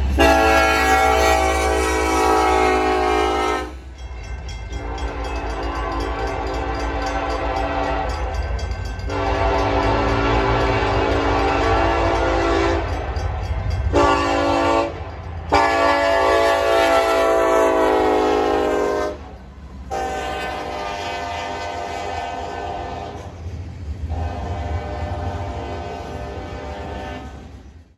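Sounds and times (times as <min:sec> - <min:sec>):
locomotive air horn blasts: 0:00.0 - 0:03.9, 0:04.8 - 0:08.3, 0:09.1 - 0:13.0, 0:13.9 - 0:19.3, 0:19.9 - 0:23.3, 0:24.1 - 0:27.5
passing train rumble: 0:00.0 - 0:27.9.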